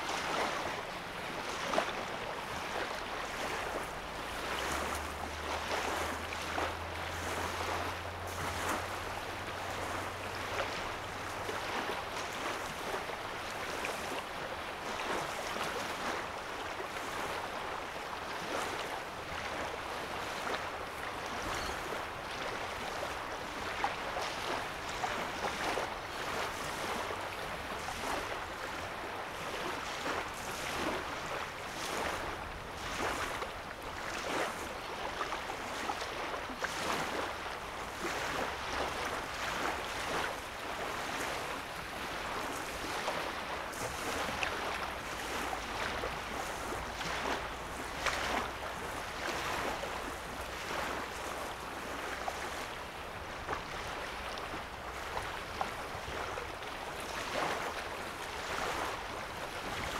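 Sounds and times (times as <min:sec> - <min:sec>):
lake waves lapping at shore: 0:00.0 - 0:59.9.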